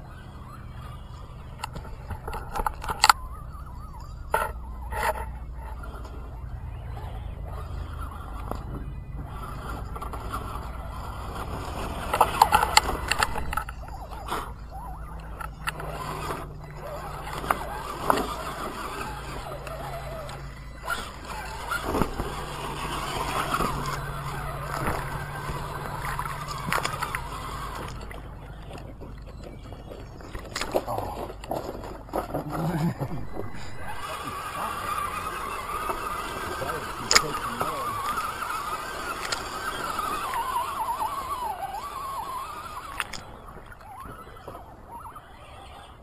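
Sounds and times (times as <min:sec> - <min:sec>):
toy car motor whining: 0:00.0 - 0:46.0
sharp clicks: 0:00.8 - 0:06.2, 0:08.0 - 0:44.6.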